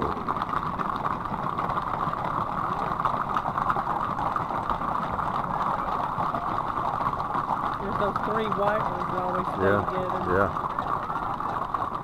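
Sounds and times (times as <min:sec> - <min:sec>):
hooves clattering on asphalt: 0:00.0 - 0:12.0.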